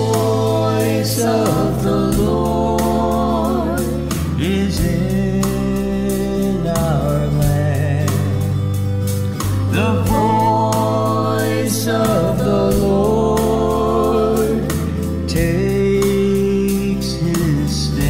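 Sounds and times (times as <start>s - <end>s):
worship song singing: 0.0s - 8.8s, 9.4s - 18.0s
instrumental backing with bass line: 0.0s - 18.0s.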